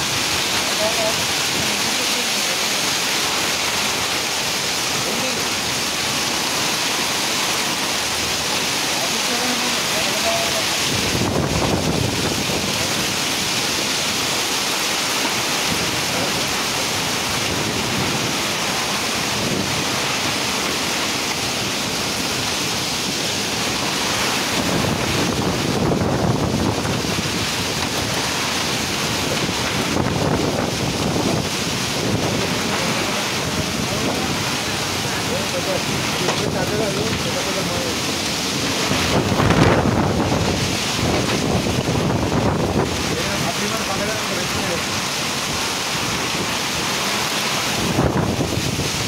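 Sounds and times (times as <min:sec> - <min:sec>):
heavy rain hissing: 0:00.0 - 0:49.0
wind gusts buffeting microphone: 0:00.0 - 0:49.0.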